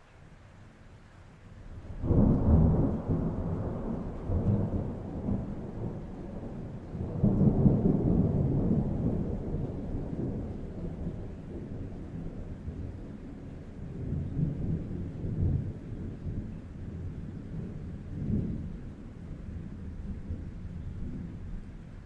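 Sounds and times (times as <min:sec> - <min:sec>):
thunderclap rolling into rumble: 0:01.8 - 0:21.7.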